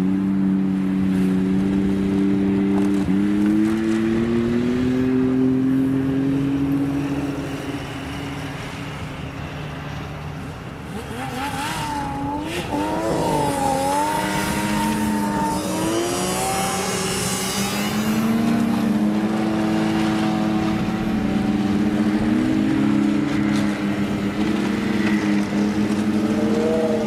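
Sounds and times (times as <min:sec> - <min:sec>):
snowmobile engines running: 0:00.0 - 0:27.0.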